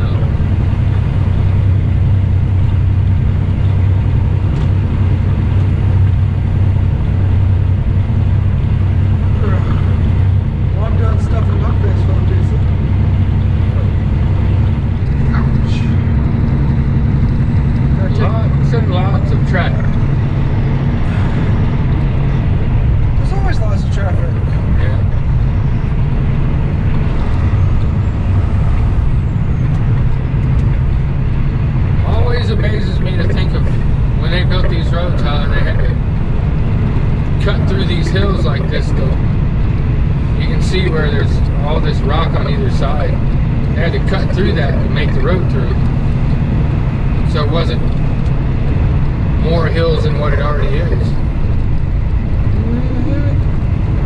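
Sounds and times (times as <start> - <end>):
road noise: 0.0 - 54.0
truck diesel engine droning: 0.0 - 54.0.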